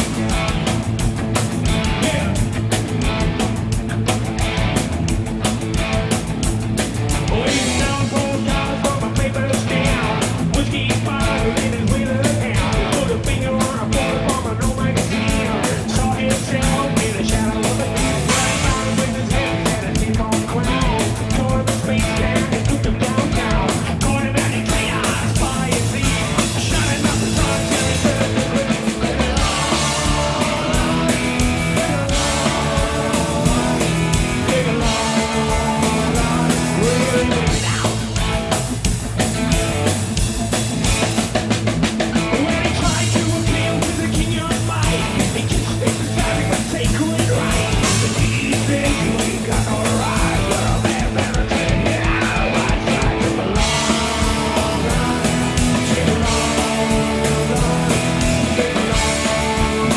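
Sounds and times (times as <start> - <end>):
drum kit: 0.0 - 59.9
electric guitars: 0.0 - 59.9
lead singer singing: 7.3 - 38.2, 42.2 - 59.9.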